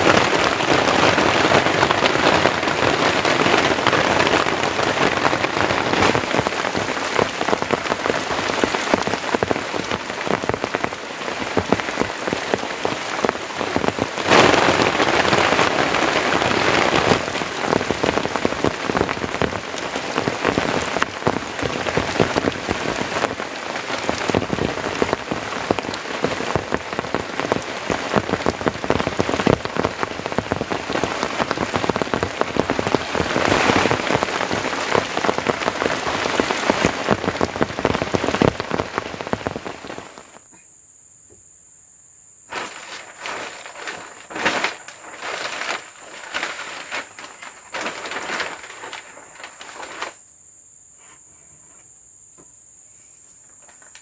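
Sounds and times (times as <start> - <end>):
heavy rain falling: 0.0 - 40.4, 42.5 - 50.2.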